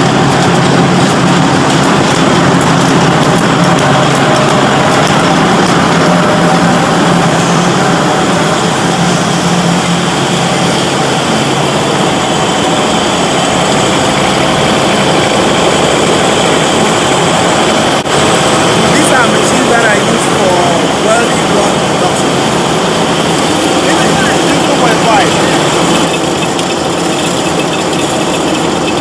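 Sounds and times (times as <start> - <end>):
loud factory machinery: 0.0 - 29.0
low hum: 0.0 - 29.0.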